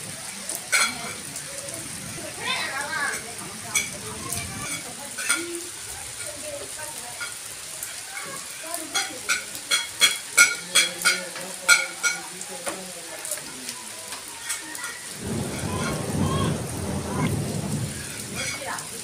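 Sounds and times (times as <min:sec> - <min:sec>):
rain falling on flooded ground: 0:00.0 - 0:19.0.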